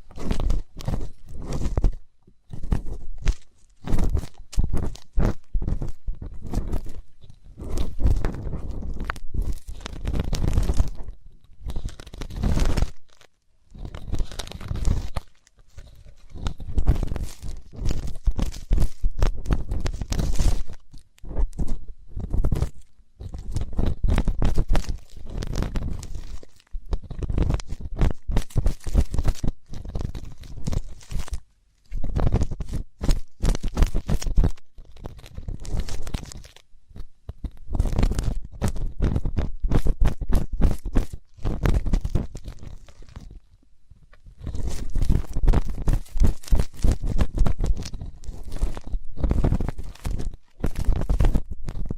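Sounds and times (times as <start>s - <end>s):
ear cleaning scraping and crackling: 0.0s - 43.5s, 44.1s - 51.9s.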